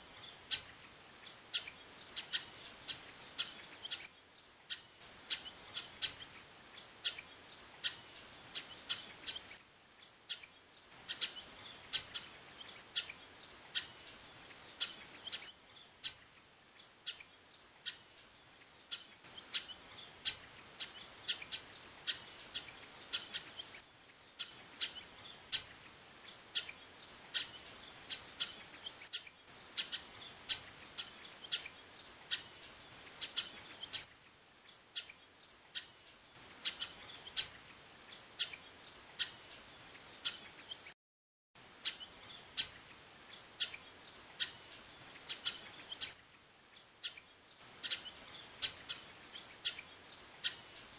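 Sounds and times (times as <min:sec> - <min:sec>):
high insect drone: 0:00.0 - 0:40.9, 0:41.6 - 0:50.9.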